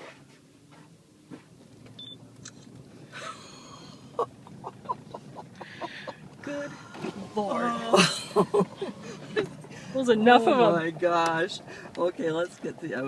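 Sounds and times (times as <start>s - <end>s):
truck engine and tyres rumbling: 0.0s - 13.0s.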